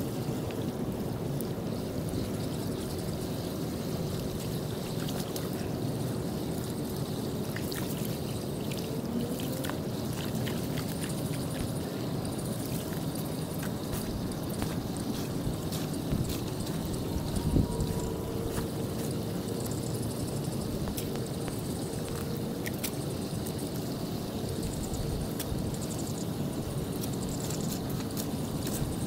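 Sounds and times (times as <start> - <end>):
water pouring into storm drain: 0.0 - 29.0
small splashes and drips: 2.2 - 29.0.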